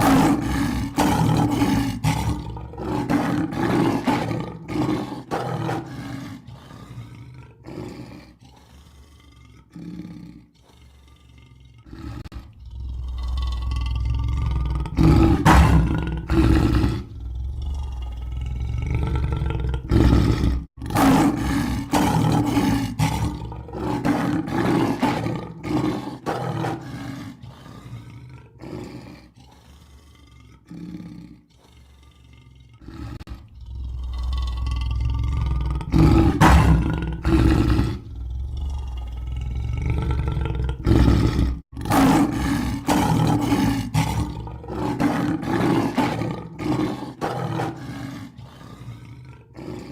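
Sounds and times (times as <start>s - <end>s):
lion roaring and grunting: 0.0s - 49.9s.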